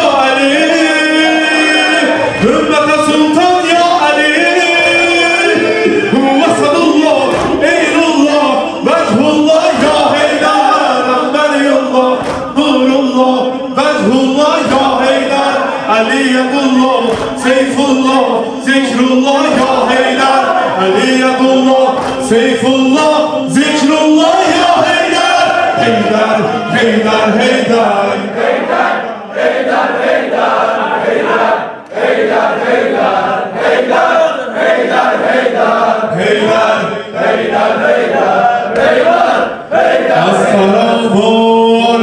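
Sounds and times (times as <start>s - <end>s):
crowd of men chanting: 0.0s - 42.0s.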